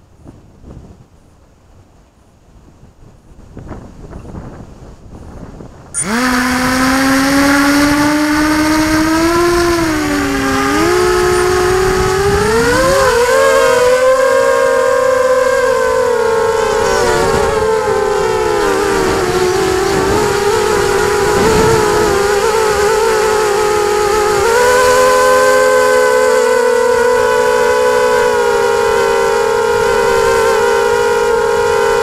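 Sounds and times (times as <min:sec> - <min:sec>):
drone motors whining: 0:06.0 - 0:32.0.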